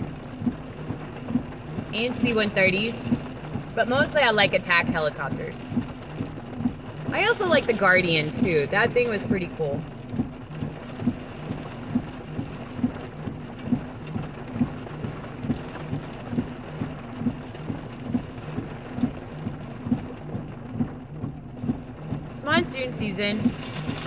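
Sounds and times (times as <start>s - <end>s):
heavy rain drumming on car roof: 0.0s - 24.0s
steady low hum: 0.0s - 24.0s.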